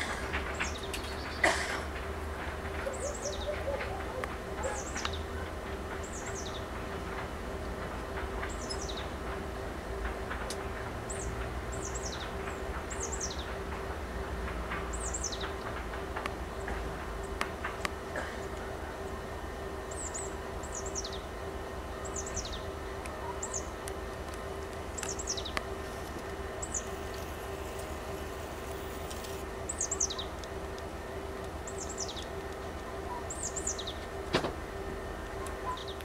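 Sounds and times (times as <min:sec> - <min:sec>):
distant train drone and rumble: 0:00.0 - 0:36.0.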